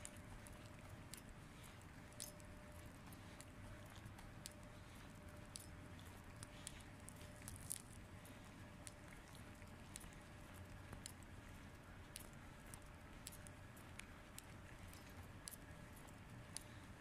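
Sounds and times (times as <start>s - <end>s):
faint ticks and scuffs: 0.0s - 17.0s
steady hum: 0.0s - 17.0s.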